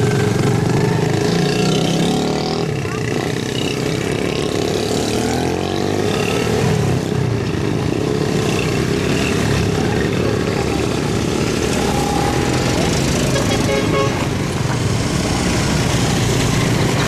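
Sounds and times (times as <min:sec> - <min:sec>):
small motorbike engines: 0:00.0 - 0:17.0.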